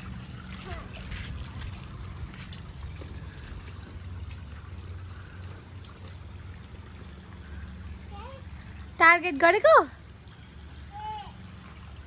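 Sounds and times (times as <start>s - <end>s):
hose water splashing into pool: 0.0s - 12.0s
low steady hum: 0.0s - 12.0s.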